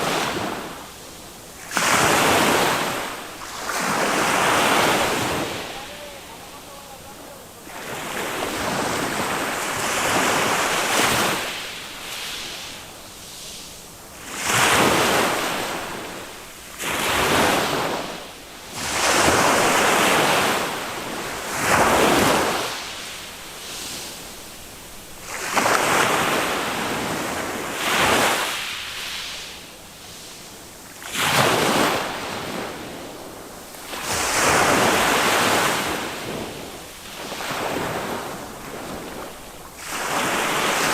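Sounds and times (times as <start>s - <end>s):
small waves on sandy beach: 0.0s - 40.9s.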